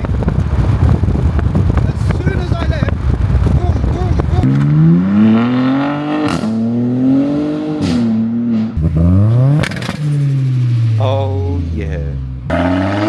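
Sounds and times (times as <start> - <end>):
car engine revving: 0.0 - 13.0
exhaust cracks: 0.0 - 13.0.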